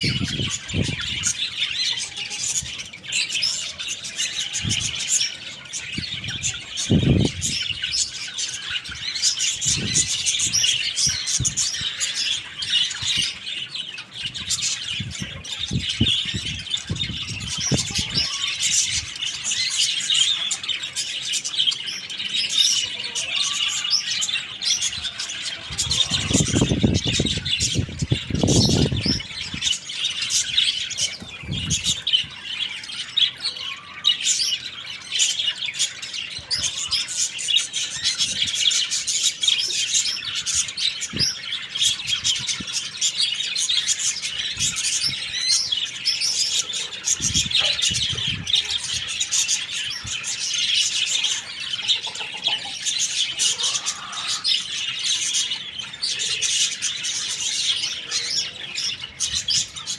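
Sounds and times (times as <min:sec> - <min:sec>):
young chickens chirping: 0:00.0 - 0:59.9.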